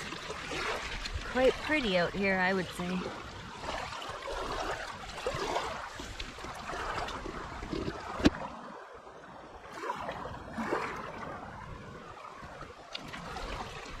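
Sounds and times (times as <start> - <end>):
waves lapping on pebbles: 0.0 - 14.0.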